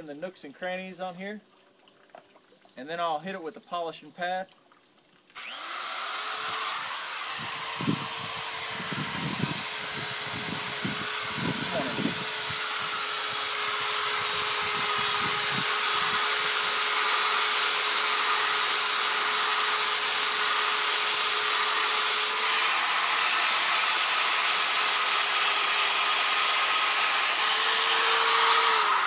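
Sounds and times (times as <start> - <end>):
drill motor whine: 5.4 - 29.0.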